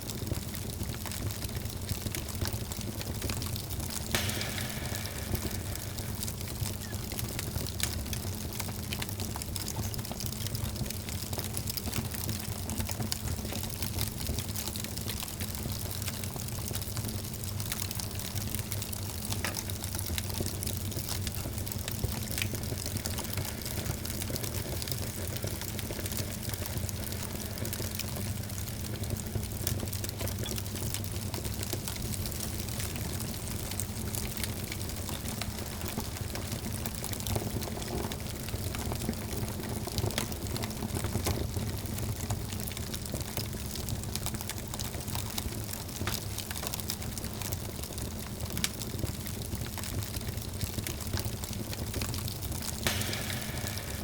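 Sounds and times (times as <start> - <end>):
low fire rumble: 0.0 - 54.0
wood fire crackling: 0.0 - 54.0.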